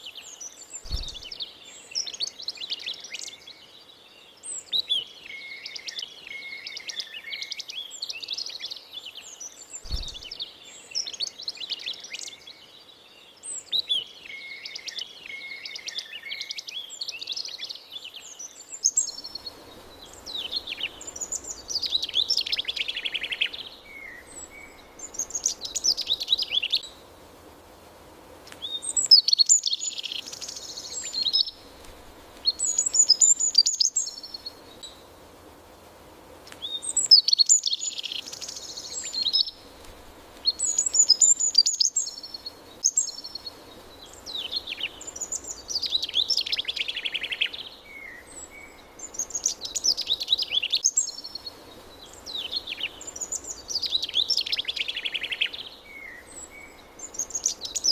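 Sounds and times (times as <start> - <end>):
faint background hiss: 0.0 - 57.9
songbirds chirping: 0.0 - 57.9.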